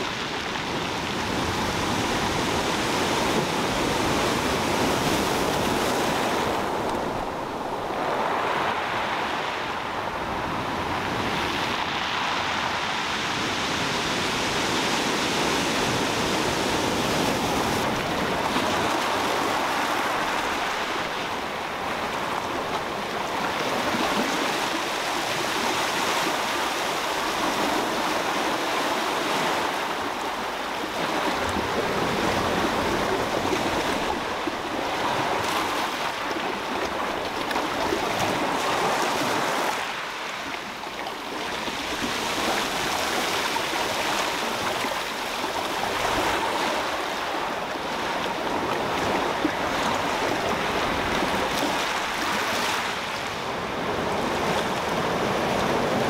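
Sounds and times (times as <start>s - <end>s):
sea surf washing ashore: 0.0s - 56.0s.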